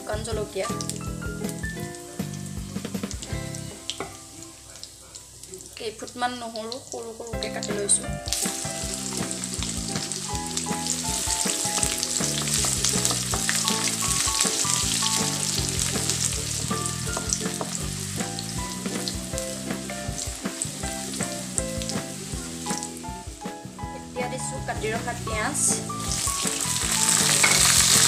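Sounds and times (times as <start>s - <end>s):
background music: 0.0s - 28.0s
spices sizzling in hot oil: 0.0s - 28.0s.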